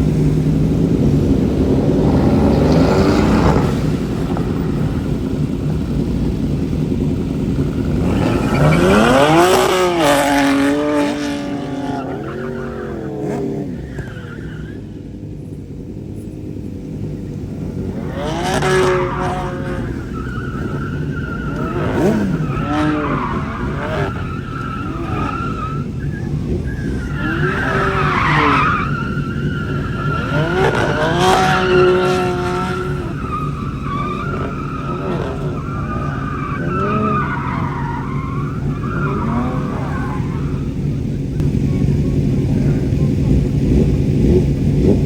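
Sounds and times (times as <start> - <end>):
tyres squealing: 0.0 - 16.1, 17.6 - 42.0
car engine revving: 0.0 - 45.0.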